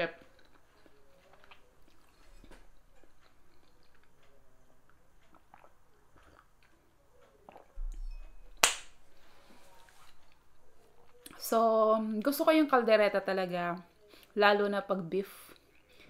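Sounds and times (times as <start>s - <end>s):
soft chewing: 0.0s - 8.5s, 9.1s - 12.4s, 13.8s - 14.4s, 15.3s - 16.0s.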